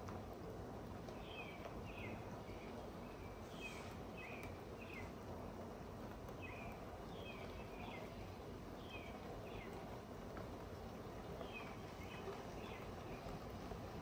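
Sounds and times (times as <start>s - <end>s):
faint background noise: 0.0s - 14.0s
birds chirping: 0.4s - 14.0s.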